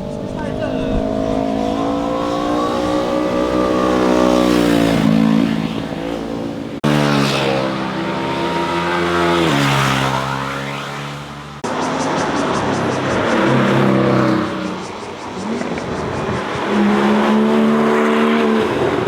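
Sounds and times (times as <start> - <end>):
motorcycle engines passing: 0.0 - 19.0.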